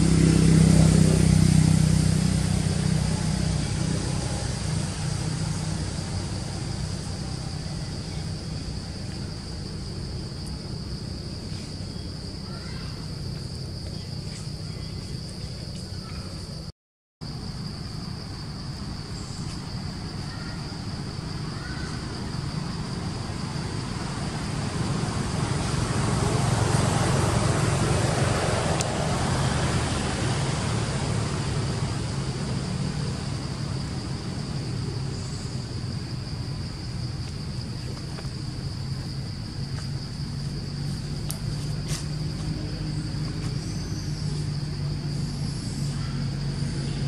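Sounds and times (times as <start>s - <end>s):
high insect drone: 0.0s - 47.0s
motor vehicle rumbling: 0.0s - 47.0s.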